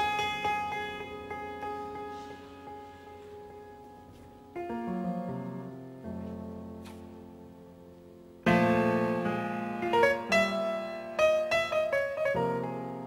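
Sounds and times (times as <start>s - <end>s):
solo jazz piano: 0.0s - 13.0s.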